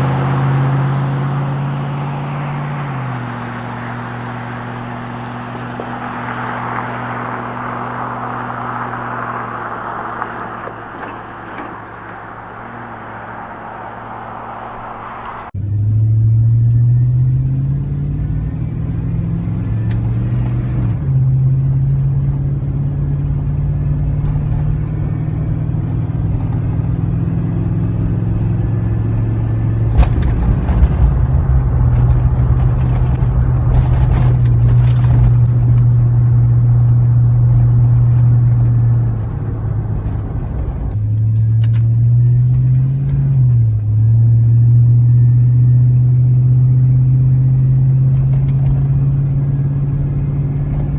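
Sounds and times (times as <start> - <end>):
truck exhaust drone: 0.0 - 50.9.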